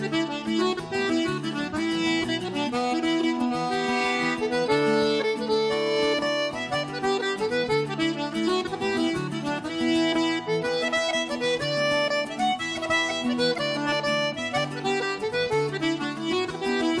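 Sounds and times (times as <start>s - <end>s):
accordion melody: 0.0s - 17.0s
steady musical accompaniment: 0.0s - 17.0s.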